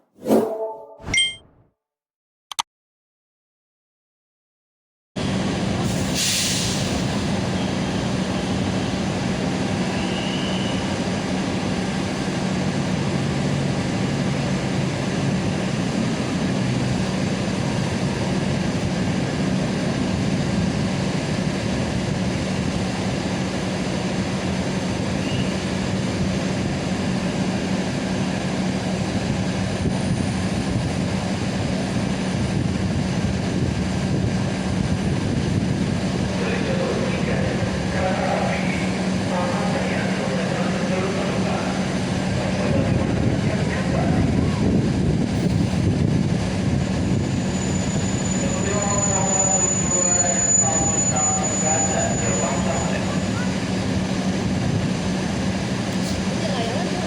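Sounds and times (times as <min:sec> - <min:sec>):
train rumble with low hum: 0:06.8 - 0:57.0.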